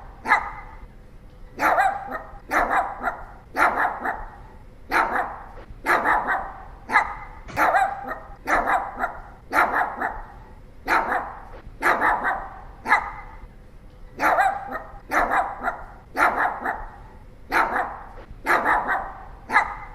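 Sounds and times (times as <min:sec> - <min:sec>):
small dog barking: 0:00.2 - 0:00.8, 0:01.6 - 0:13.4, 0:14.2 - 0:19.9.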